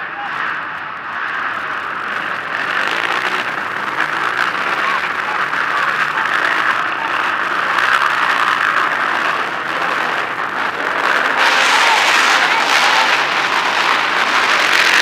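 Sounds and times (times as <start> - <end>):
quad engines racing: 0.0 - 15.0.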